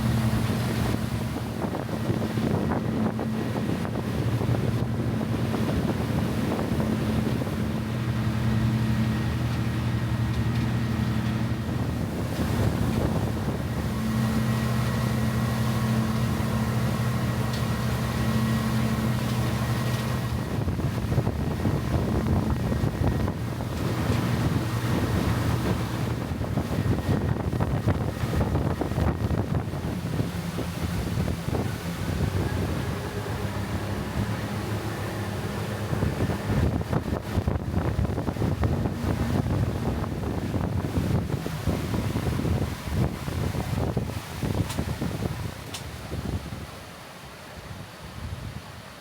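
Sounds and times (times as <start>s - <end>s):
wind buffeting microphone: 0.0s - 46.8s
boat engine humming: 0.0s - 49.0s
water rushing against hull: 0.0s - 49.0s.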